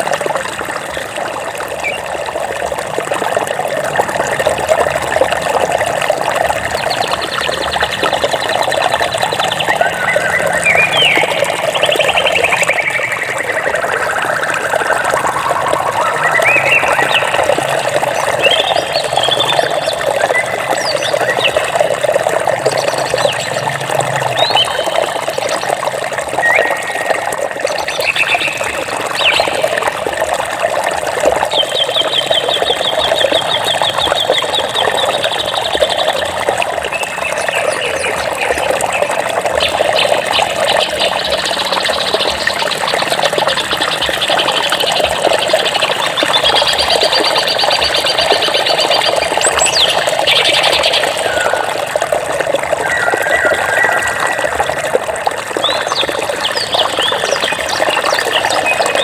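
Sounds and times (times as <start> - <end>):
water flowing: 0.0 - 59.0
birds chirping: 5.6 - 30.0, 31.3 - 52.1, 52.7 - 59.0.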